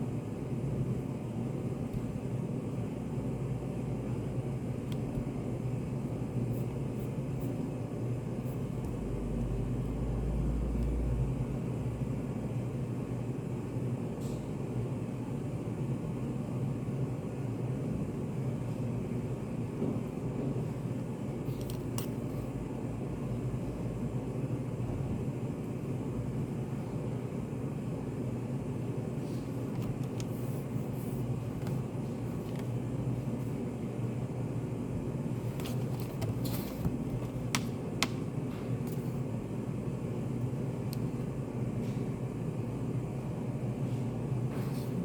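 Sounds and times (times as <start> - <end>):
ventilation hum: 0.0 - 45.0.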